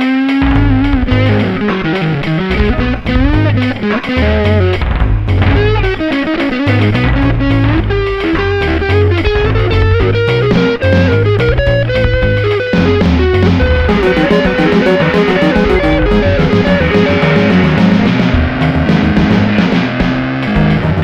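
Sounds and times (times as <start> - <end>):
electric guitar playing bent notes: 0.0 - 21.0
bass line: 0.4 - 21.0.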